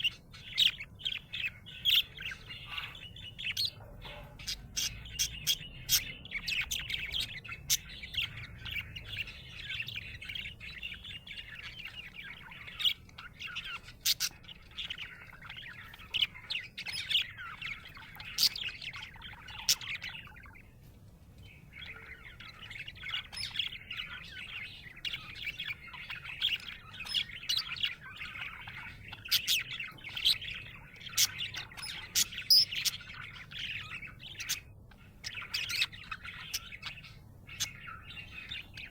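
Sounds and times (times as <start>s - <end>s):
budgie chirping: 0.0s - 20.8s, 21.4s - 38.9s.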